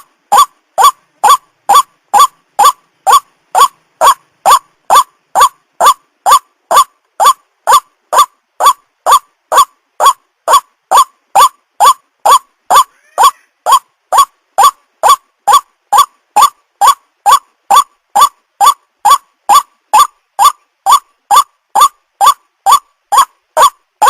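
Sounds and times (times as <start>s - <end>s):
waterhen calling: 0.0s - 23.7s.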